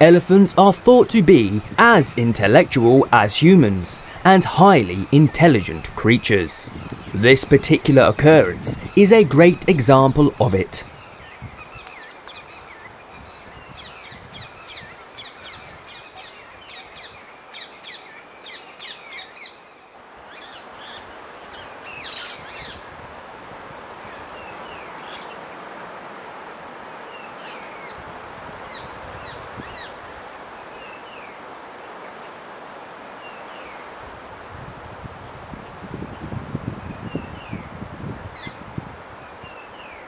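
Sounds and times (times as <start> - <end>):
wild birds chirping: 0.0 - 26.0, 27.0 - 34.1, 36.1 - 40.0
high insect drone: 0.0 - 40.0.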